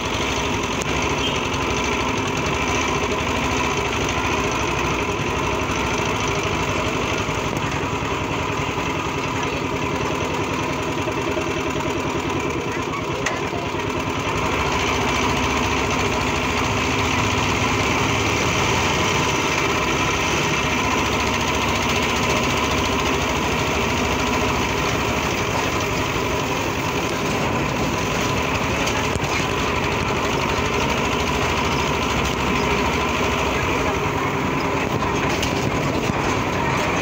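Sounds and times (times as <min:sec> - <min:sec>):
small motorcycle engine running: 0:00.0 - 0:37.0.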